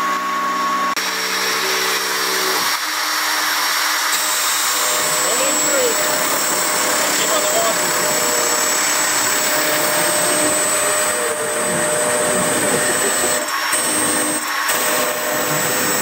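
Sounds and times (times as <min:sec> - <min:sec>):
router spindle motor whining: 0:00.0 - 0:16.0.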